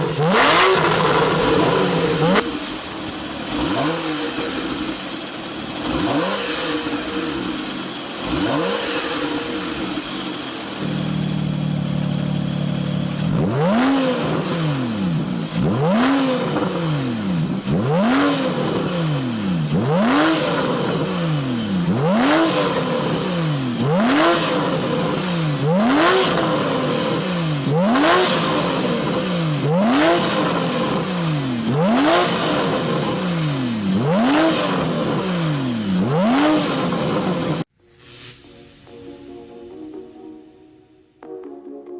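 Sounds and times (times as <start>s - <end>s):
car engine idling and revving: 0.0s - 37.7s.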